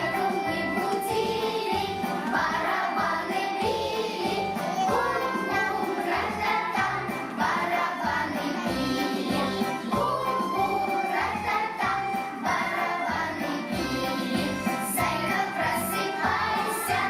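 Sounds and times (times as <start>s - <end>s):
children singing song: 0.0s - 17.0s.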